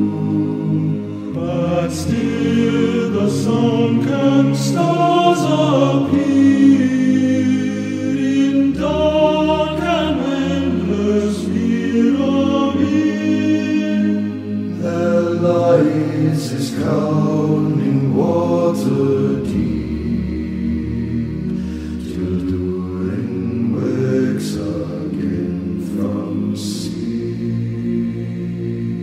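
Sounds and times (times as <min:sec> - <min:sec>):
steady low tones: 0:00.0 - 0:29.0
voices singing in harmony: 0:00.0 - 0:29.0.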